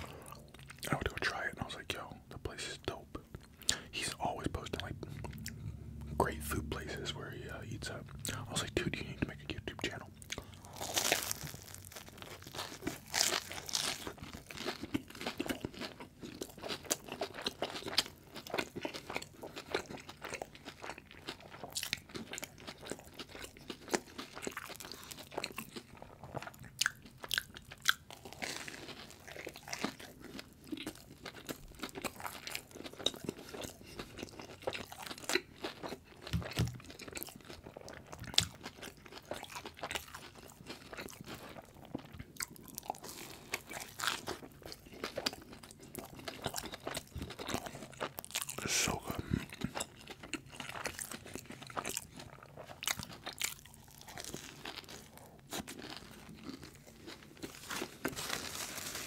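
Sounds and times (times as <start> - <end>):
crunching bites and chewing: 9.8 - 59.0.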